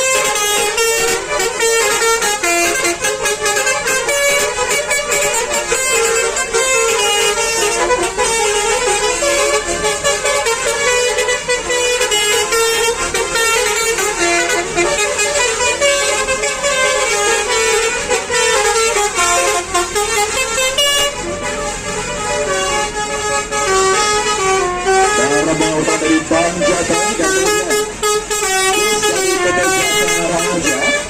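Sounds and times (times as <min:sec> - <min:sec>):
multi-tone bus horns playing: 0:00.0 - 0:31.0.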